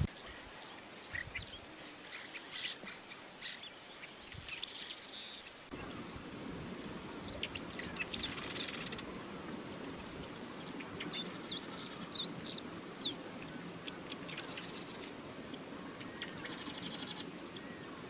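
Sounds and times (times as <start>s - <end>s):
wetland birds chirping: 0.0s - 18.0s.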